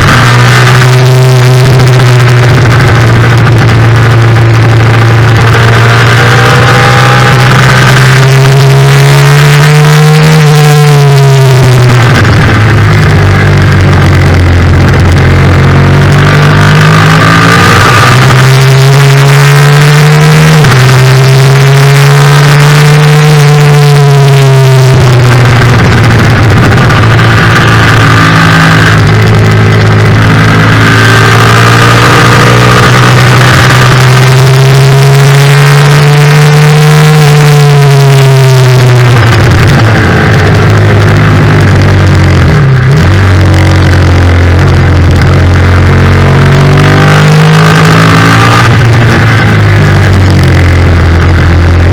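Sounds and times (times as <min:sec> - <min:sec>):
loud wind rush: 0:00.0 - 0:51.9
motorcycle engine revving: 0:00.0 - 0:51.9.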